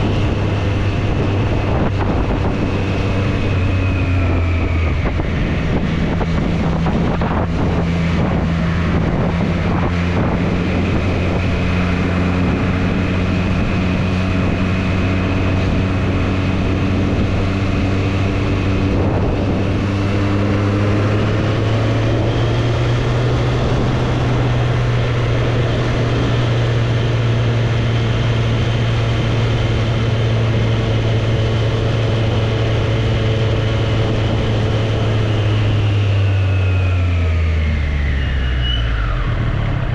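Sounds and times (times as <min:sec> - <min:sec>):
motorcycle engine running: 0:00.0 - 0:38.3
wind noise on microphone: 0:00.0 - 0:39.9.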